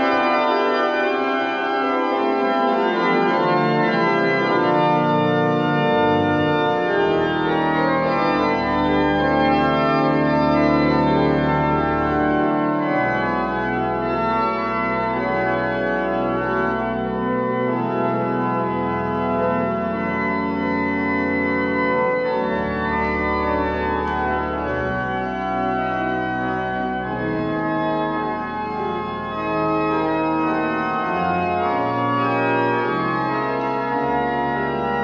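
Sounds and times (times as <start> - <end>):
deep organ pedal bass notes: 0.0 - 35.0
pipe organ chords: 0.0 - 35.0.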